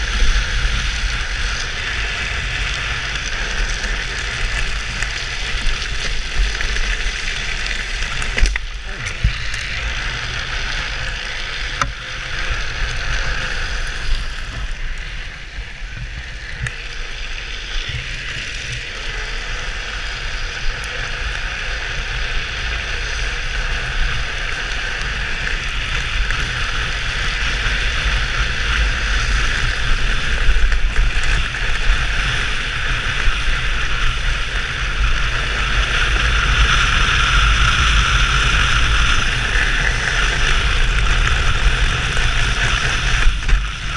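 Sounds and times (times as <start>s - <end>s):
wheels sliding on asphalt: 0.0s - 43.9s.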